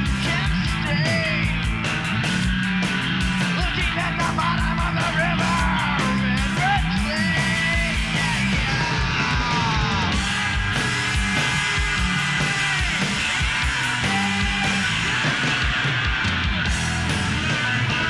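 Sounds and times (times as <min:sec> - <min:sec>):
rock music with electric guitar: 0:00.0 - 0:18.0.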